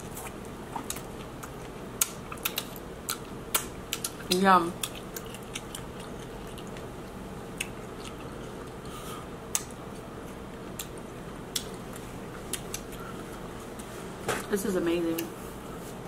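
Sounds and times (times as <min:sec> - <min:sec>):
wet chewing and squishing: 0:00.0 - 0:13.9
steady background hum: 0:00.0 - 0:16.0.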